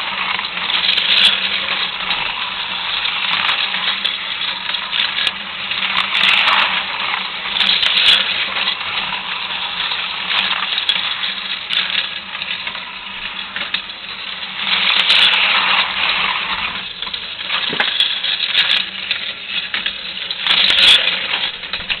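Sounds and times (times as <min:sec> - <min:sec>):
slot cars buzzing on track: 0:00.0 - 0:22.0.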